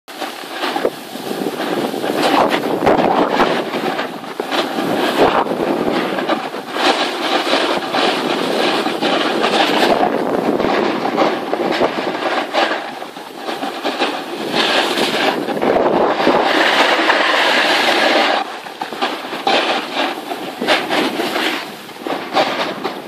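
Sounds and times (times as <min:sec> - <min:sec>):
snowboard scraping over snow: 0:00.1 - 0:23.0
wind on microphone: 0:00.1 - 0:23.0.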